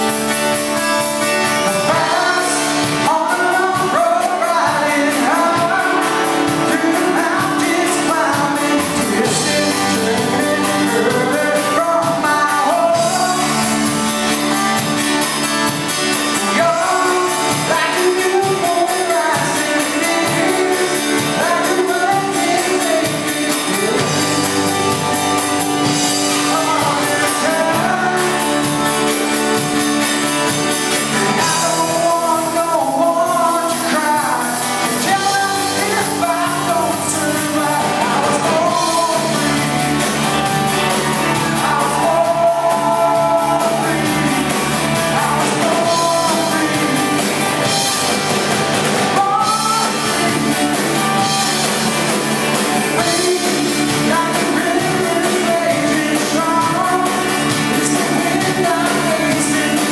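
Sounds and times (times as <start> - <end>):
electric guitar: 0.0 - 59.9
steady drum beat: 0.0 - 59.9
person singing: 1.1 - 48.3, 49.0 - 59.9.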